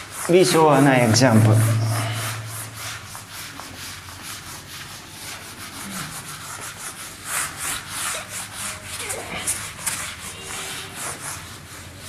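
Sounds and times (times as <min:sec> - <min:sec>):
duster rubbing on whiteboard: 0:00.0 - 0:12.0.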